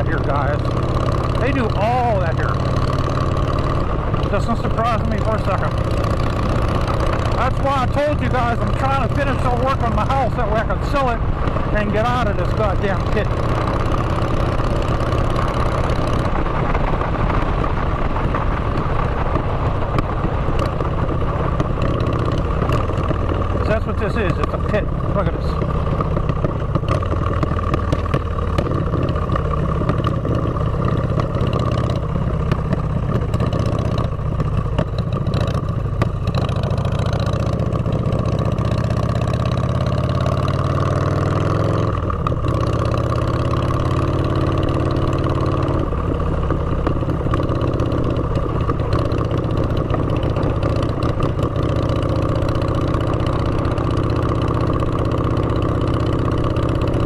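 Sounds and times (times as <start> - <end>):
motorcycle engine exhaust: 0.0 - 57.0.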